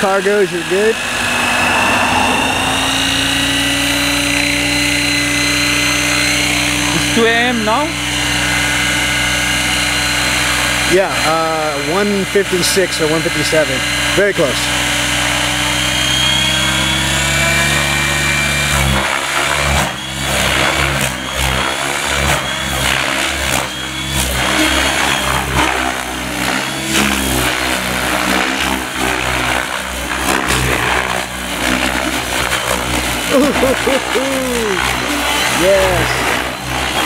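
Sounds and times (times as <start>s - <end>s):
model helicopter motor and rotor whine: 0.0s - 37.0s.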